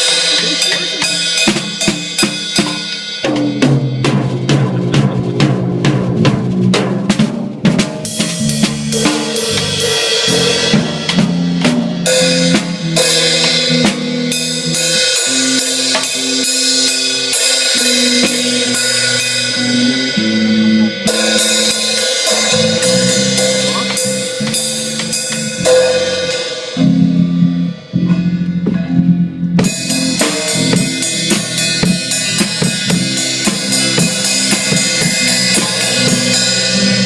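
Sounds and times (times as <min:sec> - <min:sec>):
drum kit: 0:00.0 - 0:37.0
moving bass line: 0:03.5 - 0:37.0.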